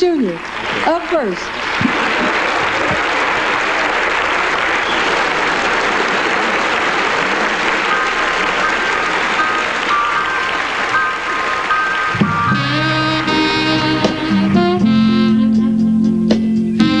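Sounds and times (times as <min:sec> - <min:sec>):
audience applauding: 0:00.0 - 0:14.2
band playing high notes: 0:01.8 - 0:17.0.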